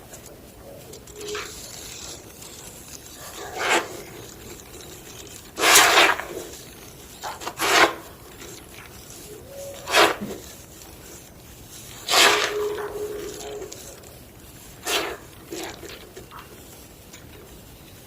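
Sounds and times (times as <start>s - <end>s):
chalk block crunching: 0.9s - 18.0s.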